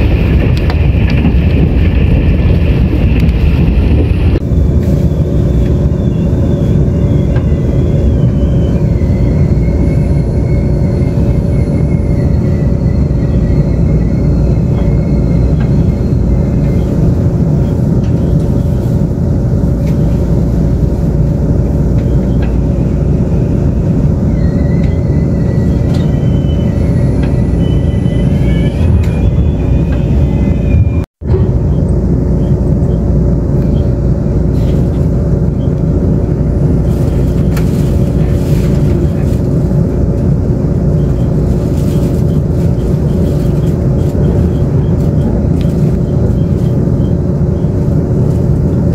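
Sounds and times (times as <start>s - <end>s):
train wheels rumbling on rail: 0.0s - 48.9s
wavering squeals: 4.9s - 48.5s.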